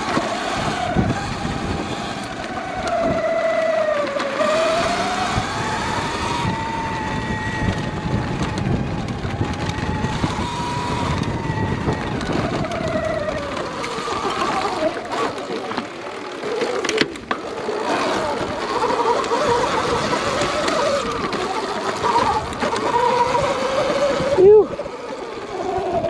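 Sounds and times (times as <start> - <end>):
electric motor whining: 0.0 - 26.0
steady rushing noise: 0.0 - 26.0.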